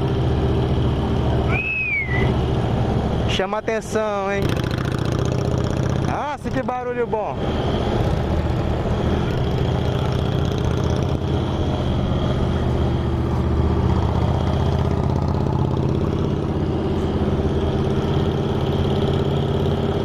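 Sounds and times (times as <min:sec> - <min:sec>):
motorcycle engines running: 0:00.0 - 0:20.0.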